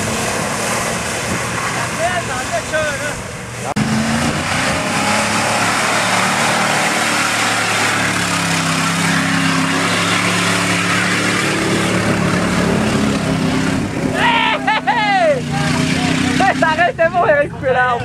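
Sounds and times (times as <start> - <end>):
truck engine under load: 0.0 - 16.9
tyres churning mud: 0.0 - 17.9.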